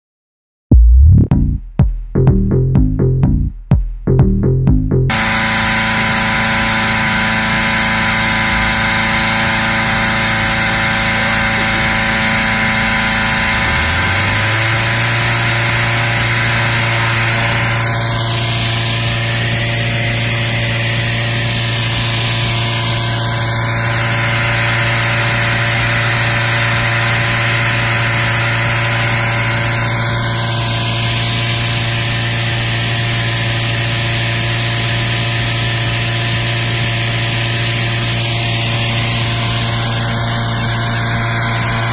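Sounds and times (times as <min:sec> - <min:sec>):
engine-driven fan running: 0:05.1 - 0:41.9.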